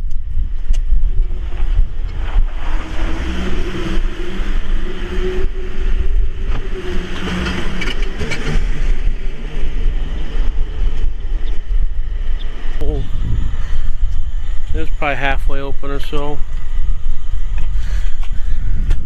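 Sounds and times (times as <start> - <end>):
engine running: 0.0 - 19.0
wind buffeting microphone: 0.0 - 19.0.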